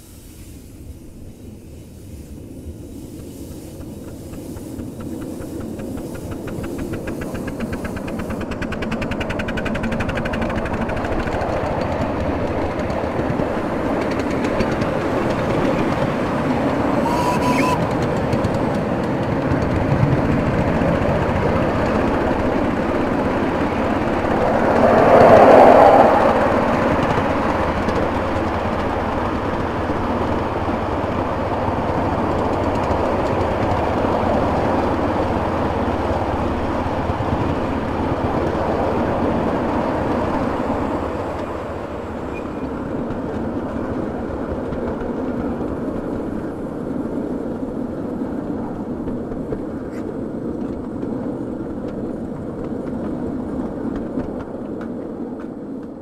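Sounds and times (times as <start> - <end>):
miniature steam locomotive running: 1.9 - 56.0.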